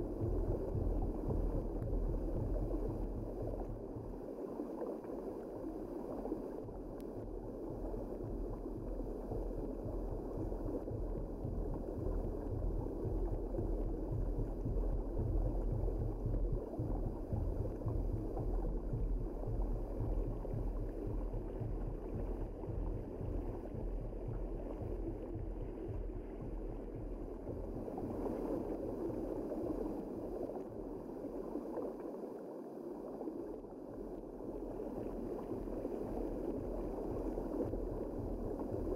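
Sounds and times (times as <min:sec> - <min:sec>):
low rumble: 0:00.0 - 0:04.9, 0:05.5 - 0:31.8, 0:33.8 - 0:38.9
underwater rush of water: 0:00.0 - 0:38.9.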